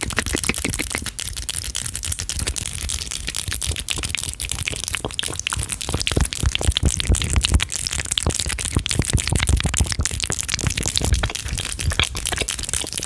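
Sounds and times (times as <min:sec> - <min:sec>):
mouth clicks and pops: 0:00.0 - 0:13.0.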